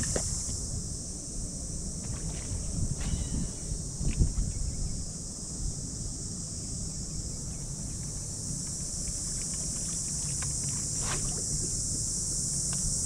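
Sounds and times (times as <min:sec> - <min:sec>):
high-pitched insect chorus: 0:00.0 - 0:13.0
wind rumble on microphone: 0:00.0 - 0:13.0.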